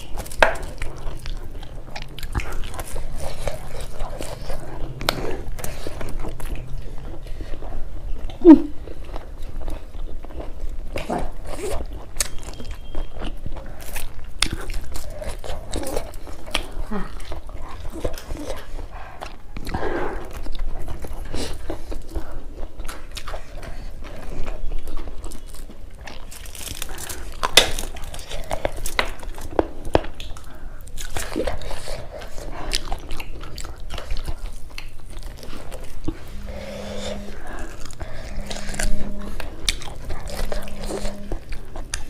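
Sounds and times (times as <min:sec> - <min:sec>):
wet chewing and crunchy bites: 0:00.0 - 0:42.0.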